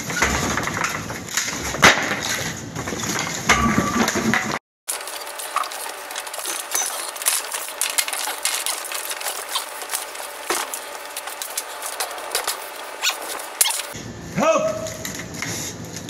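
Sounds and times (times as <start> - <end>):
wooden boards clattering: 0.0 - 14.0.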